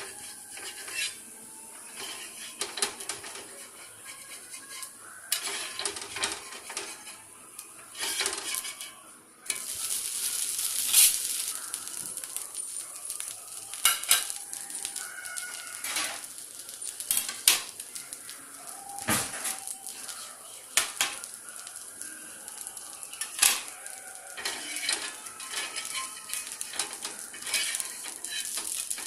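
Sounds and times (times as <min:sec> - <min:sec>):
batter sizzling on a griddle: 0:00.0 - 0:29.0
metal utensil scraping a pan: 0:00.0 - 0:29.0.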